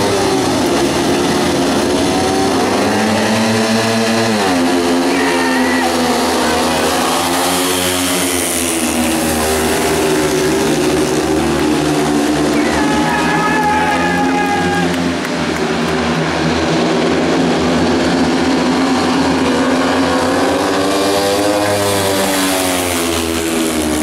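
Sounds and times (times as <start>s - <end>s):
motorcycles accelerating hard: 0.0s - 24.0s.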